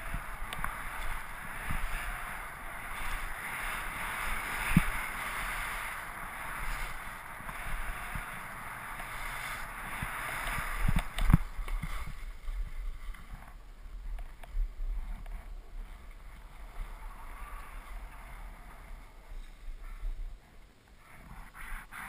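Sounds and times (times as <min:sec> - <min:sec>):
wind on microphone: 0:00.0 - 0:20.5
skis scraping over packed snow: 0:00.0 - 0:22.0.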